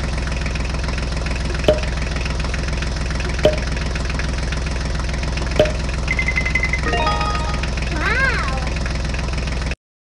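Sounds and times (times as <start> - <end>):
tractor engine idling: 0.0 - 9.8.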